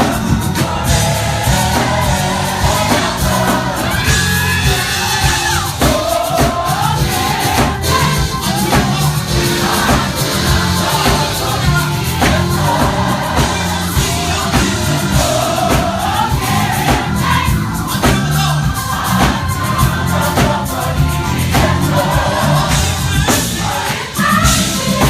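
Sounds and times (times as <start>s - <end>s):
gospel choir singing: 0.0s - 25.0s
live band playing: 0.0s - 25.0s.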